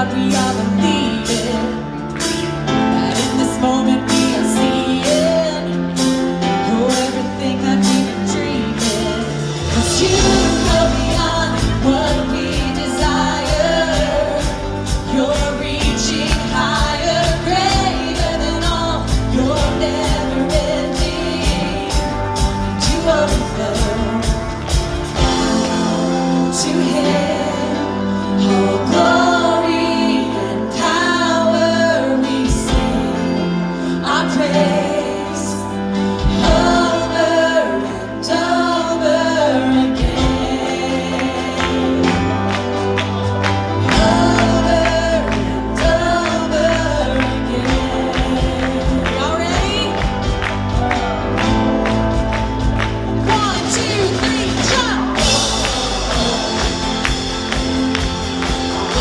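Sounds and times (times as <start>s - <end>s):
women singing: 0.0s - 2.0s, 2.6s - 51.6s, 53.2s - 59.0s
drums: 0.0s - 59.0s
electric guitars: 0.0s - 59.0s.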